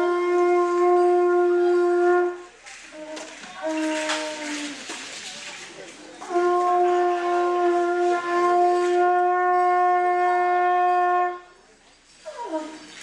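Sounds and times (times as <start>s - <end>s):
conch shell trumpet blowing: 0.0s - 5.0s, 6.2s - 13.0s.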